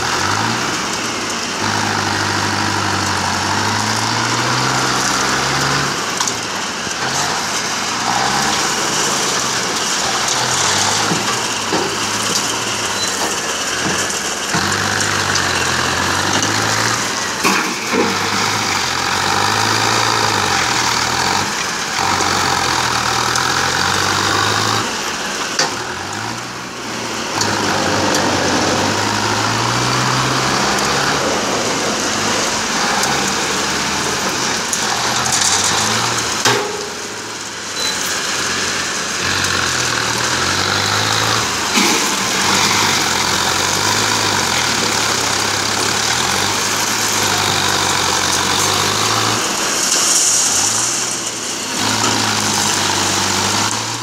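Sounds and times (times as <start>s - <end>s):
tractor diesel engine working: 0.0s - 54.0s.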